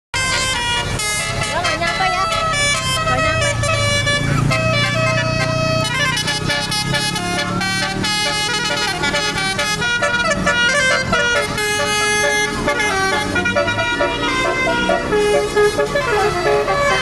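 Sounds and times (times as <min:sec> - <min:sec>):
bus engine hum: 0:00.1 - 0:17.0
multi-tone air horn tune: 0:00.2 - 0:17.0.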